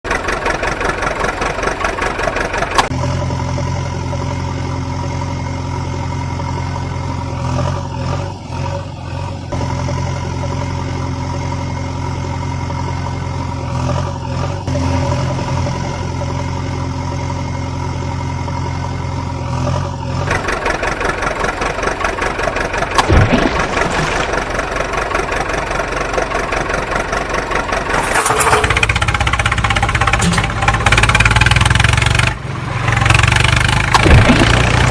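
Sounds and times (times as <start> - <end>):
engine pulsing and humming: 0.0 - 34.9.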